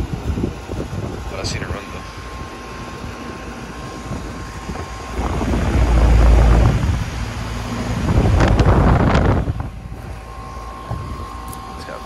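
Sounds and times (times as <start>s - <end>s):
air conditioner fan whoosh: 0.0s - 12.0s
air blowing across microphone: 0.1s - 10.2s.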